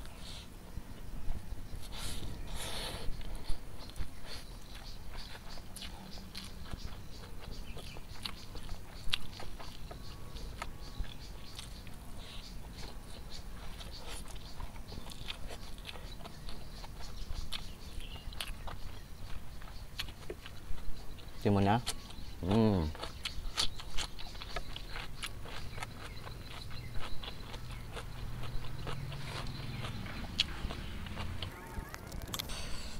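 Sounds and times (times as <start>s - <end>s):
close-up chewing: 1.8s - 32.5s.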